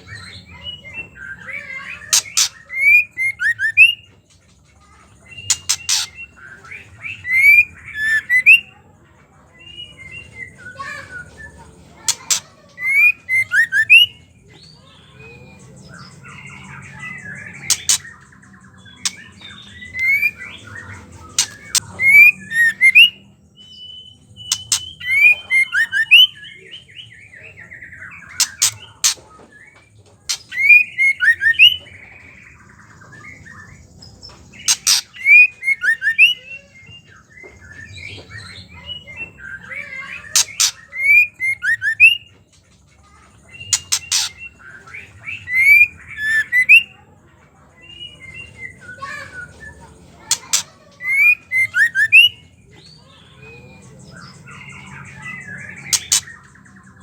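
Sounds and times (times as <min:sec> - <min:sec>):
bird whistled calls and chatter: 0:00.0 - 0:57.0.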